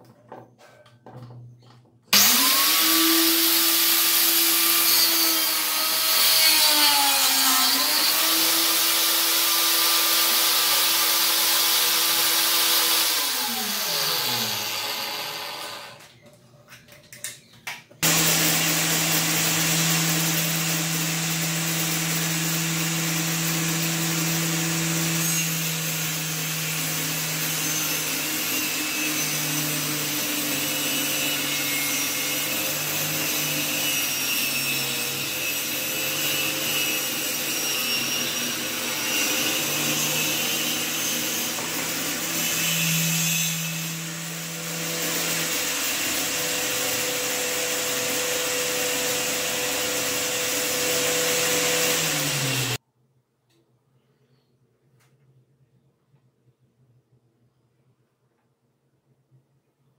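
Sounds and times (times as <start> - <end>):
angle grinder cutting plywood: 2.1 - 16.0, 18.0 - 52.8.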